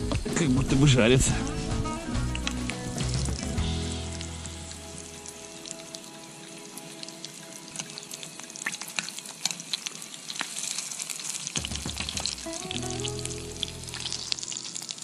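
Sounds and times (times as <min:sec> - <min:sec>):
dumplings sizzling in a pan: 0:02.4 - 0:15.0.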